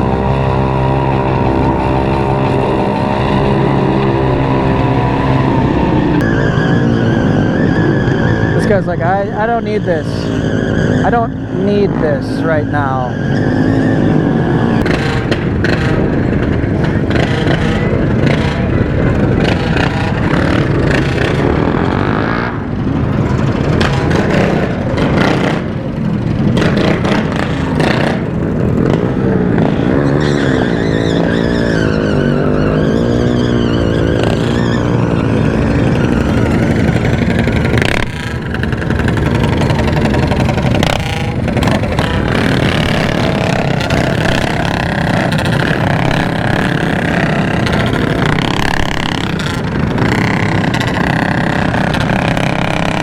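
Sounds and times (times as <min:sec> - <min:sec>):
motorcycle engines revving: 0:00.0 - 0:53.0
wind and road noise: 0:00.0 - 0:53.0.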